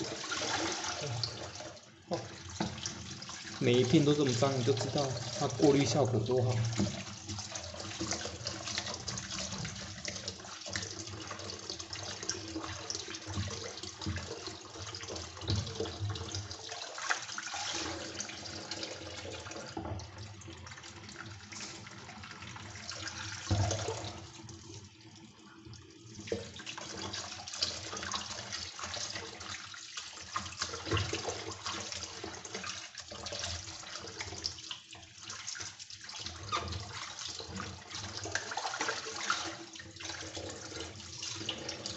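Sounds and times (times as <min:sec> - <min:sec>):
tap water running and splashing: 0:00.0 - 0:41.9.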